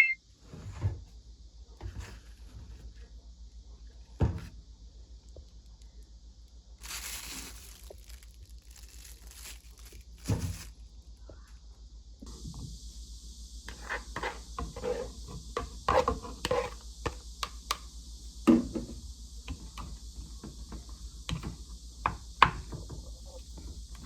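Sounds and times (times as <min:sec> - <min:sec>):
steady high-pitched hiss: 0:02.8 - 0:24.0.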